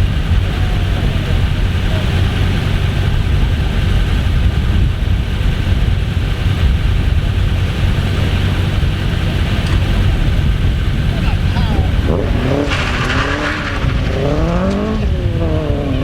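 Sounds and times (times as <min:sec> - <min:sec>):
car engine at steady revs: 0:00.0 - 0:16.0.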